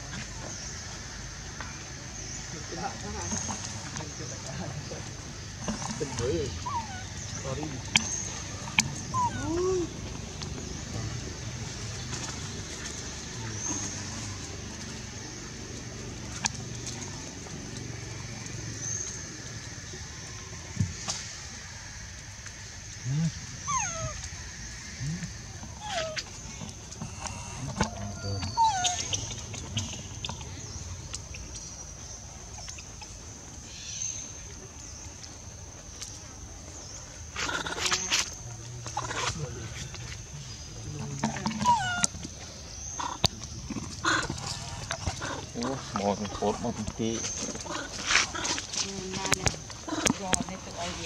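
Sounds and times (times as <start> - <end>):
insect drone: 0.0 - 51.0.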